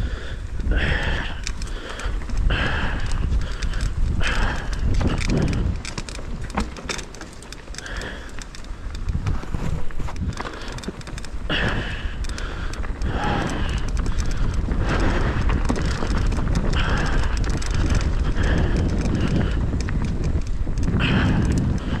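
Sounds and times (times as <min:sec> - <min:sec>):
bike clicks and rattles: 0:00.0 - 0:22.0
mountain bike rolling over rocks: 0:00.0 - 0:22.0
wind buffeting microphone: 0:00.0 - 0:22.0.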